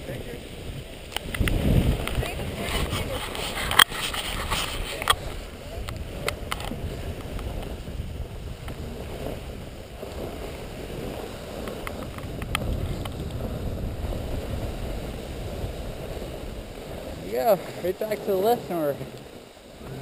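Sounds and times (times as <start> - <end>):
rushing over snow: 0.0 - 20.0
wind buffeting microphone: 0.0 - 20.0.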